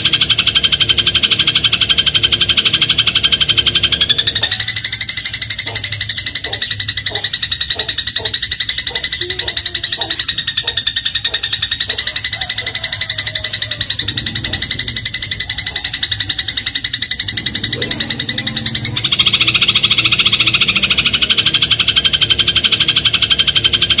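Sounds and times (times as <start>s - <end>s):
sparrow trilling: 0.0s - 24.0s.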